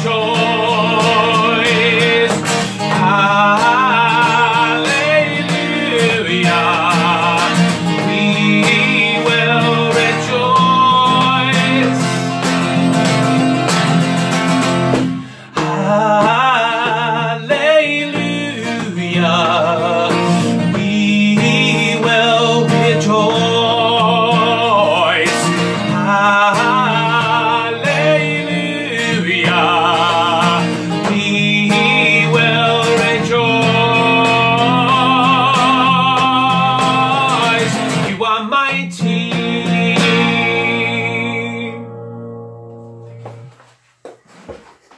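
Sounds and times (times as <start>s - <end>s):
man singing with vibrato: 0.0s - 42.6s
strummed acoustic guitar: 0.0s - 44.9s.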